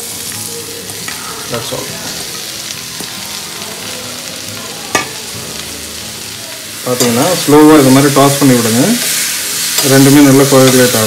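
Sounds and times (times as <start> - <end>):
mushrooms sizzling in a pan: 0.0 - 11.0.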